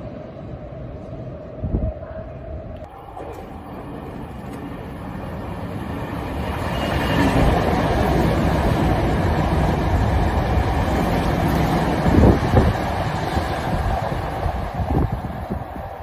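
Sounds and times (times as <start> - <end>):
electric train passing at speed: 0.0 - 16.0.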